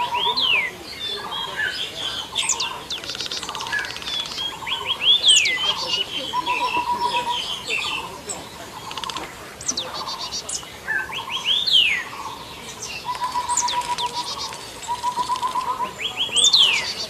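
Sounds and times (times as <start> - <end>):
birds whistling and trilling: 0.0 - 17.0
fast pulsed low bird notes: 0.0 - 17.0.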